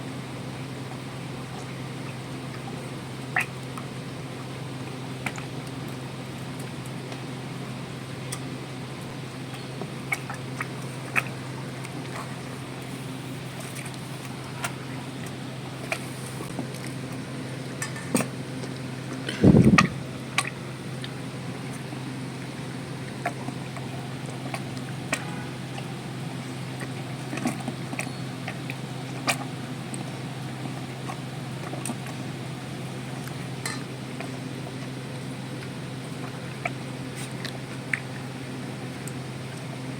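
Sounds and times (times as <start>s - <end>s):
steady low hum: 0.0s - 39.9s
cow chewing fodder: 0.9s - 39.9s.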